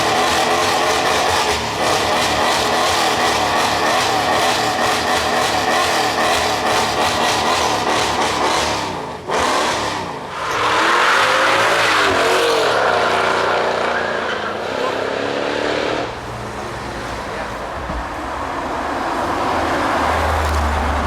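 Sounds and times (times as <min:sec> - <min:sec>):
car engine accelerating hard: 0:00.0 - 0:17.6.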